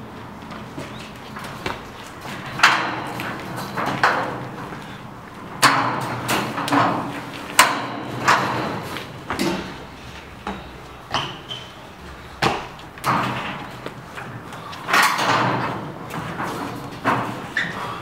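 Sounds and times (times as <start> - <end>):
scaffolding tubes clanking: 1.3 - 18.0.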